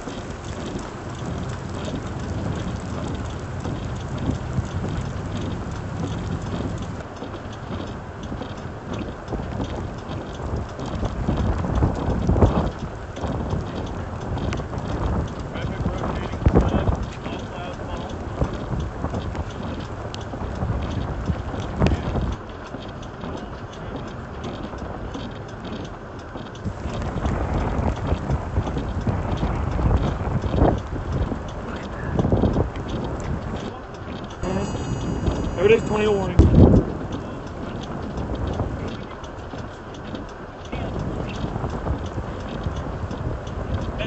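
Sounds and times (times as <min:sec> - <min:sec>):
light ticking: 0:00.0 - 0:44.0
wind and rain rumble: 0:00.0 - 0:44.0.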